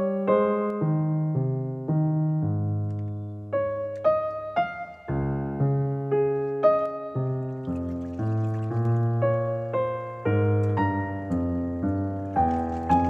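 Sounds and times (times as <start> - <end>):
electric piano melody: 0.0 - 13.0.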